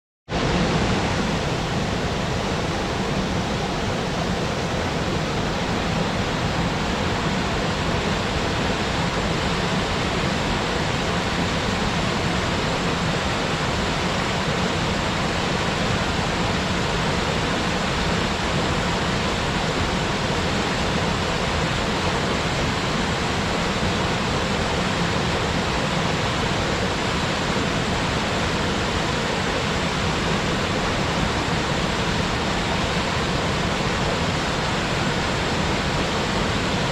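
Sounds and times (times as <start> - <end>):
waterfall rushing: 0.3 - 36.9.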